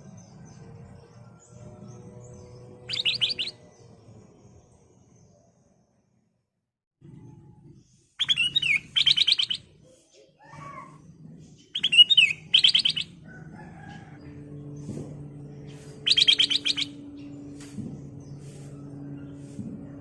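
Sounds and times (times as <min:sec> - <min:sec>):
bird singing: 0:00.0 - 0:05.6, 0:08.2 - 0:19.5.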